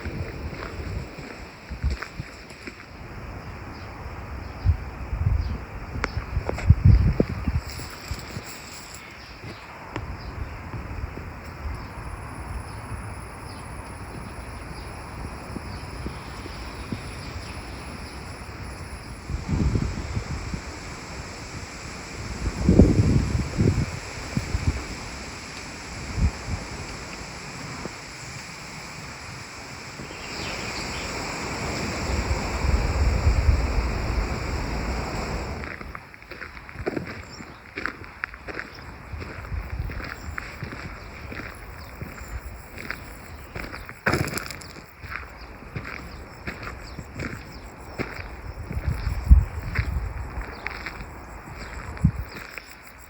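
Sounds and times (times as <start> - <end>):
steady rushing hiss: 0.0 - 53.0
wind buffeting microphone: 0.0 - 53.0.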